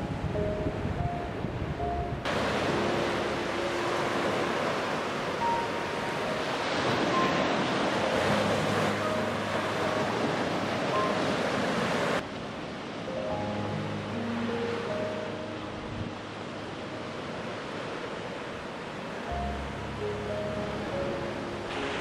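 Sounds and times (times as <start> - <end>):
sea waves breaking on beach: 2.2 - 19.5, 20.6 - 22.0.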